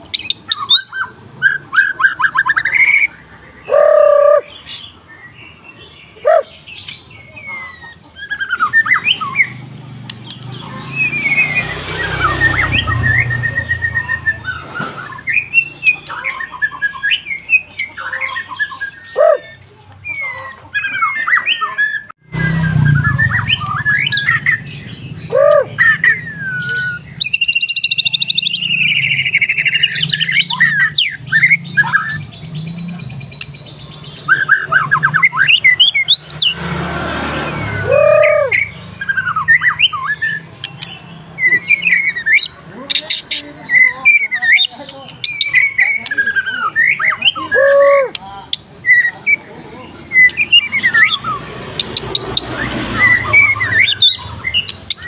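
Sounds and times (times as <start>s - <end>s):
songbird whistles and trills: 0.0s - 36.6s, 37.2s - 42.6s, 43.6s - 55.0s.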